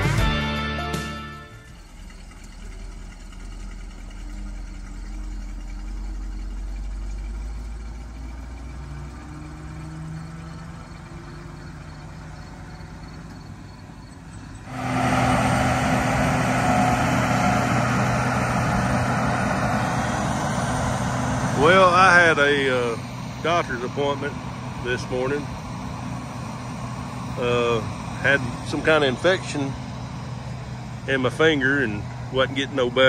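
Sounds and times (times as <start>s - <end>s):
diesel engine of farm machinery: 0.0s - 33.0s.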